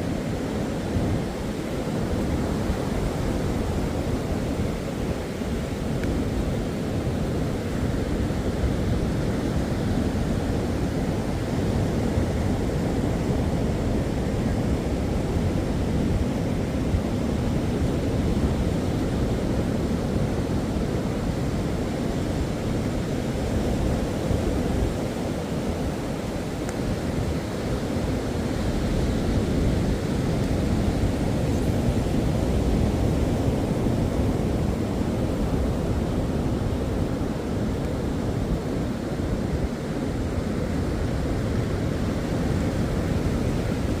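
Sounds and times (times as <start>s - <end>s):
ocean surf: 0.0s - 44.0s.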